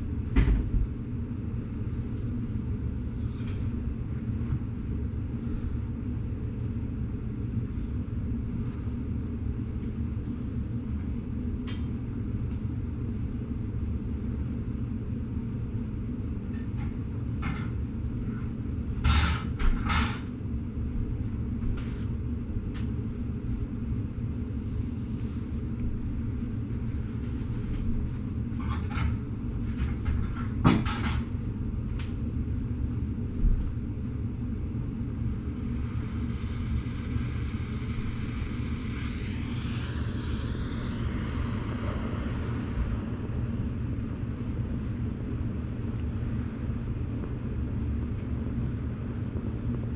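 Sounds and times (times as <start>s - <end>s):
low mechanical rumble: 0.0s - 49.9s.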